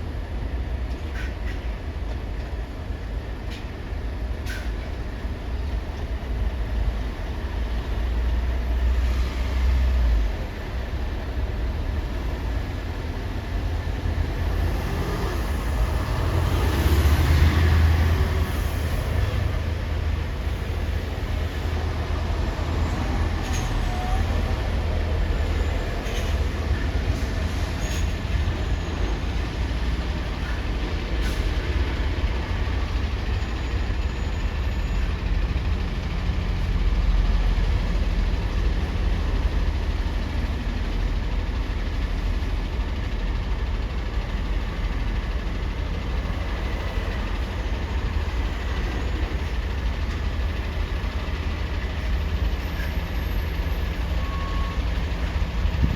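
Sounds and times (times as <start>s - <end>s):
diesel engines rumbling: 0.0s - 55.9s.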